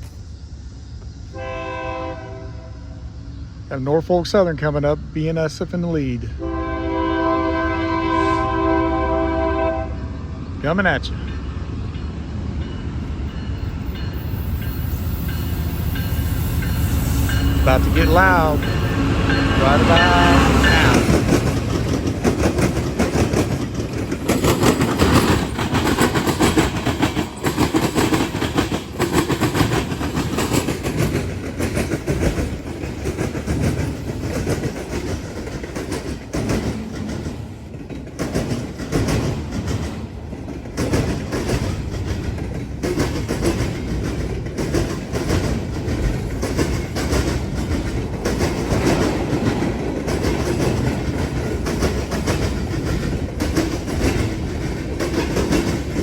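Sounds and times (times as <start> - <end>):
train wheels clattering over crossing: 11.1 - 56.0.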